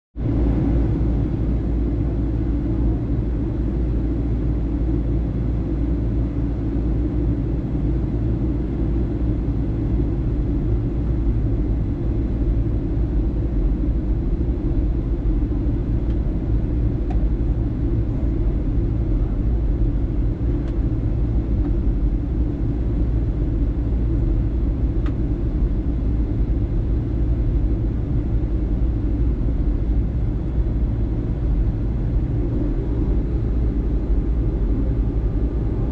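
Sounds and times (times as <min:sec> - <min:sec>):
airliner engine rumble: 0:00.2 - 0:35.9.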